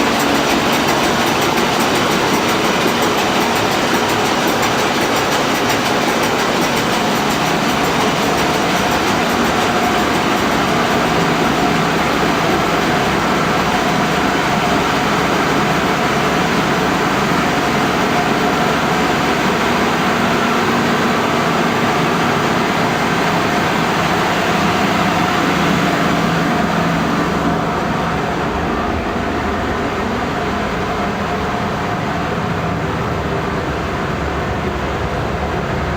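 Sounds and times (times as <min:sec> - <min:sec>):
engine running with mechanical clatter: 0:00.0 - 0:35.9.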